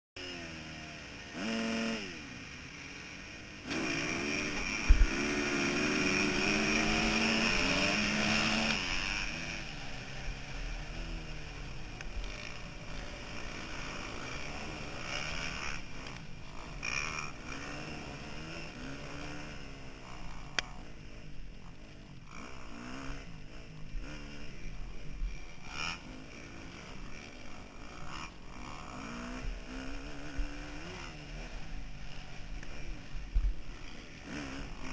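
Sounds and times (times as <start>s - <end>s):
dirt bike engine revving: 0.2s - 34.9s.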